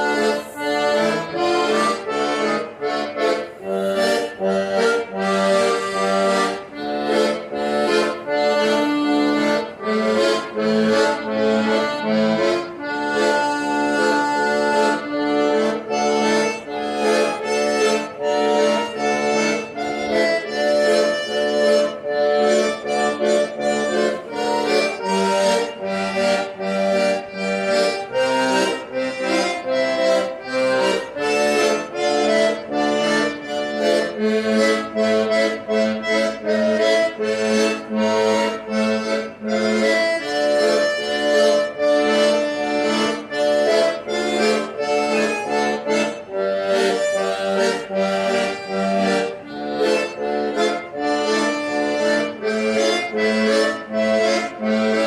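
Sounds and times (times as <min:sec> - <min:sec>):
accordion tune: 0:00.0 - 0:55.0.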